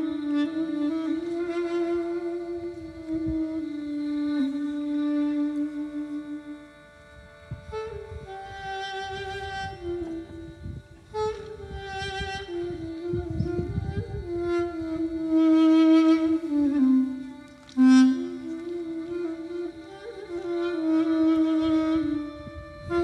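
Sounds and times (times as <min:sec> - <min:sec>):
wind rumble on microphone: 0:00.0 - 0:06.3, 0:07.0 - 0:23.0
violin playing long notes: 0:00.0 - 0:23.0.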